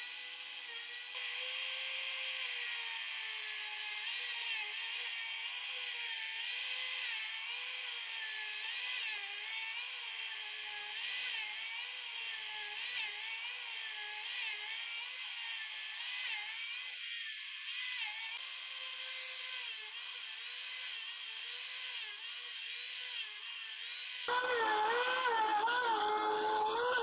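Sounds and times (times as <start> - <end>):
router whining cutting wood: 0.0 - 27.0.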